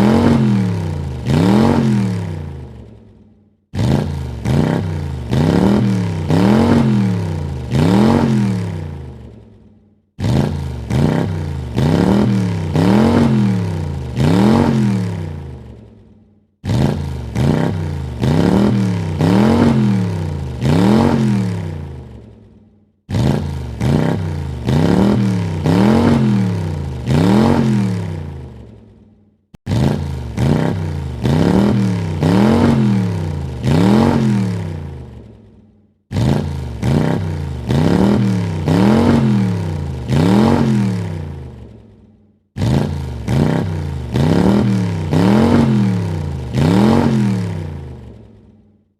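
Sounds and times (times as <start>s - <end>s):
car engine revving: 0.0s - 3.0s, 3.7s - 9.5s, 10.2s - 16.0s, 16.6s - 22.3s, 23.1s - 28.8s, 29.6s - 35.3s, 36.1s - 41.8s, 42.6s - 48.3s.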